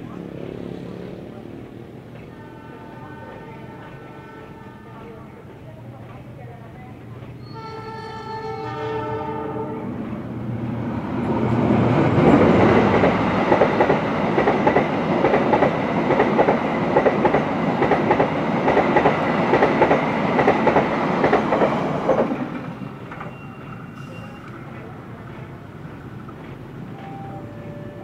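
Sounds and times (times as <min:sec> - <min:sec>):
train wheel and rail rush: 0:00.0 - 0:28.0.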